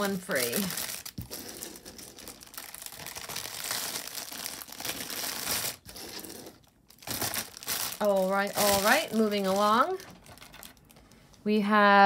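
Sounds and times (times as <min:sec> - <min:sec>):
hands rustling and crinkling: 0:00.3 - 0:11.5.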